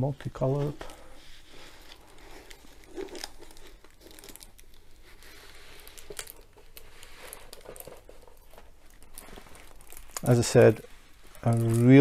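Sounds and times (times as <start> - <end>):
plastic film crinkling: 0.3 - 12.0.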